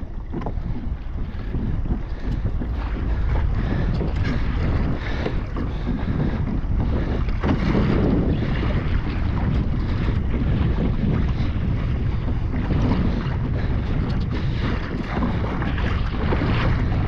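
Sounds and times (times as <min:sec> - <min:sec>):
water sloshing and splashing: 0:00.0 - 0:17.0
wind buffeting microphone: 0:00.0 - 0:17.0.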